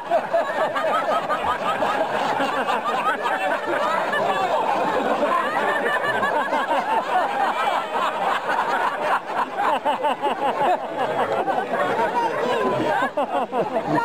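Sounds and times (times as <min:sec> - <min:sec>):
crowd laughing: 0:00.0 - 0:14.0
crowd talking: 0:00.0 - 0:14.0.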